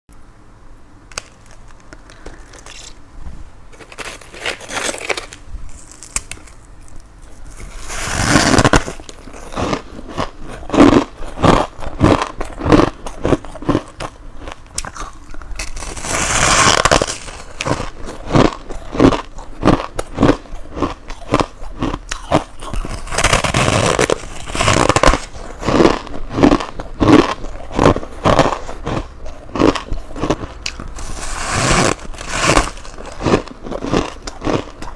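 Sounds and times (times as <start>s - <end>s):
chewing crunchy frost ice: 3.8s - 34.9s.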